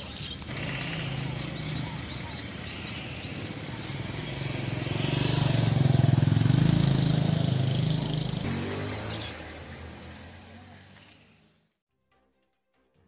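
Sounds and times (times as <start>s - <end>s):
vehicle engine passing: 0.2s - 11.7s.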